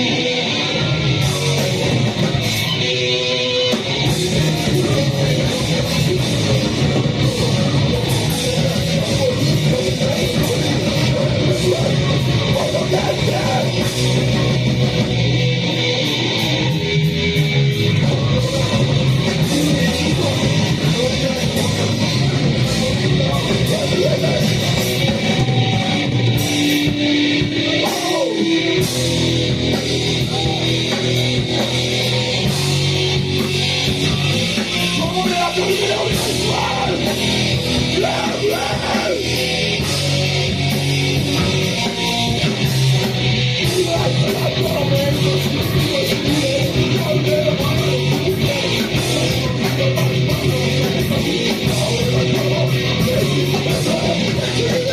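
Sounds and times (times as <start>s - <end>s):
band playing heavy rock: 0.0s - 54.9s.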